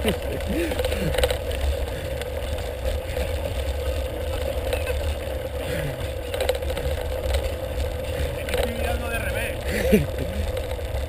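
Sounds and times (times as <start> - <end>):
bicycle rattling over stony track: 0.0 - 11.0.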